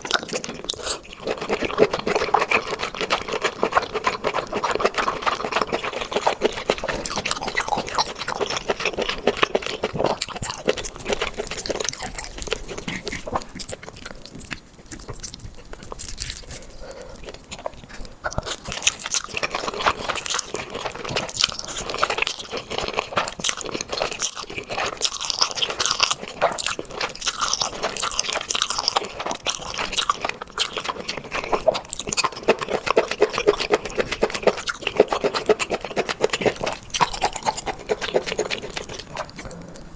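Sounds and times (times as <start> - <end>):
chewing crunchy seafood: 0.0 - 39.9.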